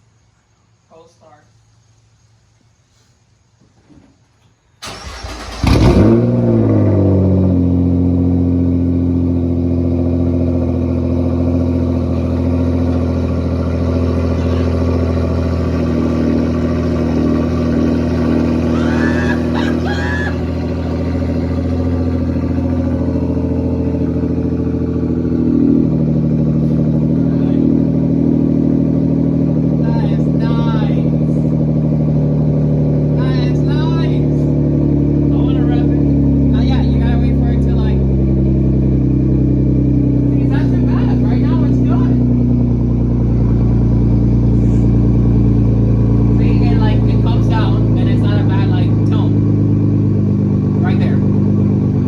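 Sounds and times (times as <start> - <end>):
car engine starting and idling: 4.8 - 52.0.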